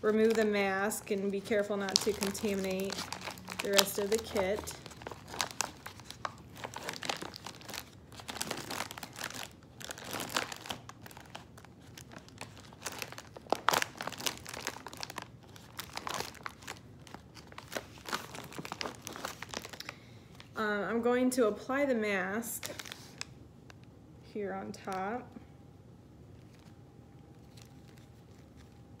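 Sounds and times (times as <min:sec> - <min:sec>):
plastic and paper wrapping crinkling: 0:00.0 - 0:20.6, 0:22.6 - 0:23.3, 0:26.3 - 0:29.0.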